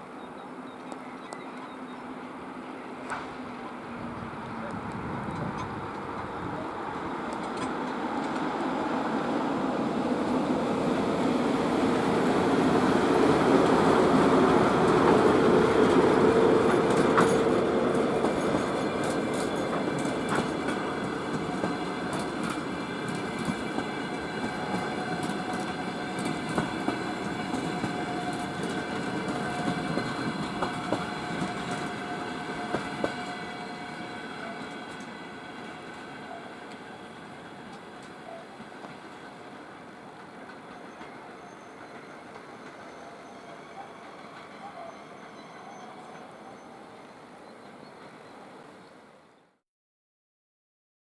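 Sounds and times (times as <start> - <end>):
train passing rumble: 0.0 - 49.3.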